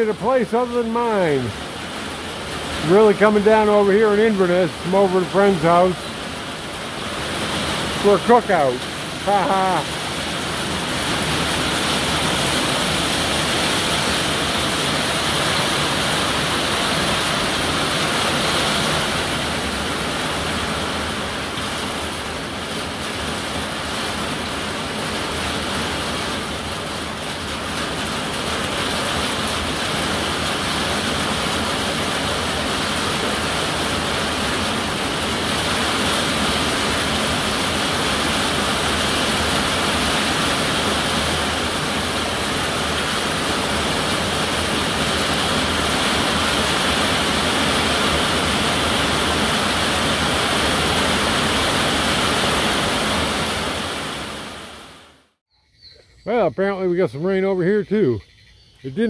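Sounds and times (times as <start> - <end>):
rain splashing on pavement: 0.0 - 55.2
rain on a metal roof: 0.0 - 55.4.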